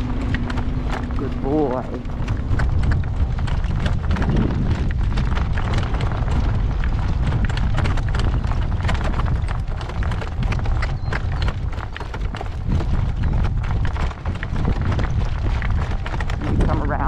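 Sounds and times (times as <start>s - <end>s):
horse hooves clip-clopping: 0.0s - 17.0s
wind buffeting microphone: 0.0s - 17.0s.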